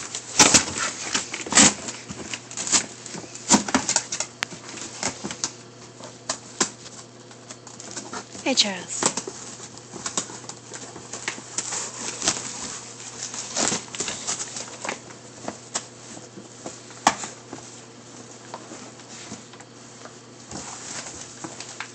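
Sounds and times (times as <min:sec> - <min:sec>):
puppies scratching cardboard box: 0:00.0 - 0:08.4, 0:09.0 - 0:21.9.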